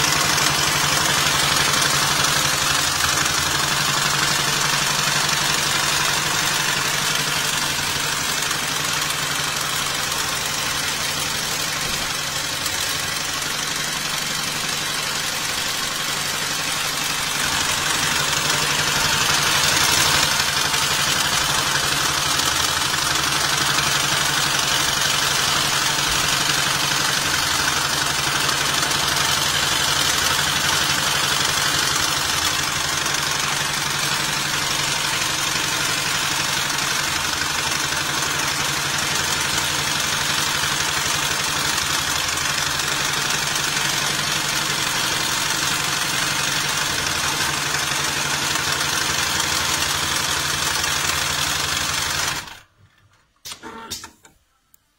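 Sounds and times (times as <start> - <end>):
sewing machine stitching: 0.0 - 54.3.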